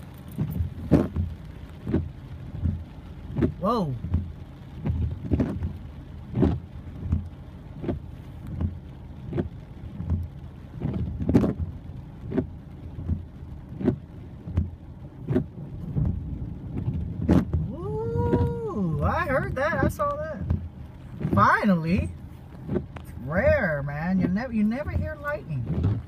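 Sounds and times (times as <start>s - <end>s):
heavy rain on a car: 0.0s - 26.0s
regular thump: 0.2s - 26.0s.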